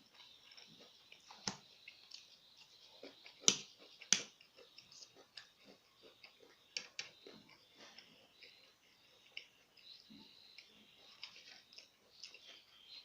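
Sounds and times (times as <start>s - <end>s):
chewing with wet mouth clicks: 0.1s - 13.0s.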